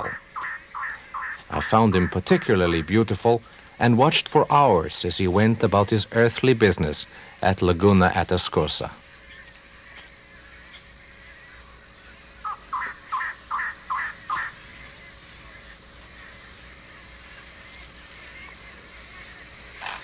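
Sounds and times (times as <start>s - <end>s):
bird calling: 0.0s - 20.0s.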